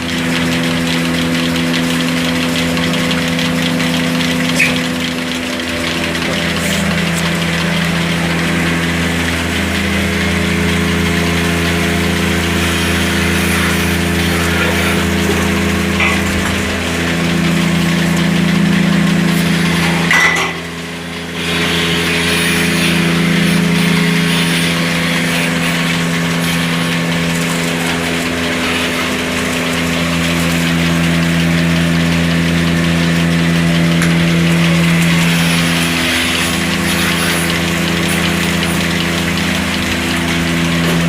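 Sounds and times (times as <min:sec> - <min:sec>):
machine humming: 0:00.0 - 0:41.0.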